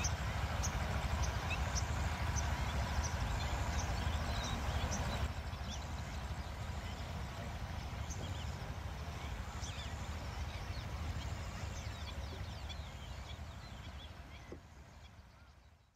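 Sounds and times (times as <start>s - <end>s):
birds chirping and calling: 0.0s - 15.8s
steady low rumble: 0.0s - 15.9s.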